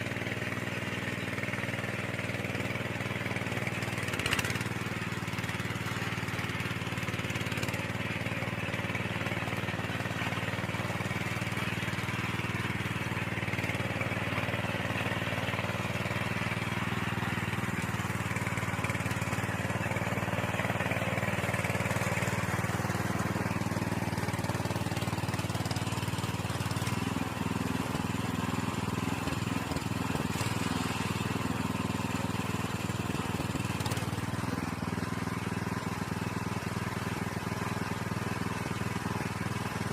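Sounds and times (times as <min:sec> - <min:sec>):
soil tiller engine running: 0:00.0 - 0:39.9.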